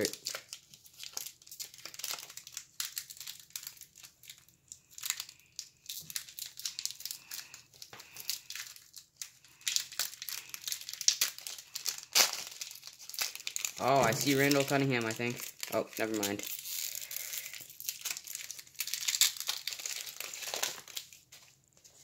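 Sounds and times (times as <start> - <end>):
wrapper crinkling and tearing: 0.0 - 22.0.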